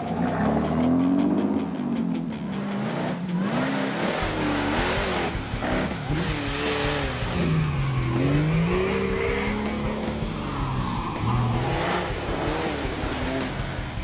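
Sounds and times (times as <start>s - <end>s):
truck engines revving: 0.0s - 14.0s.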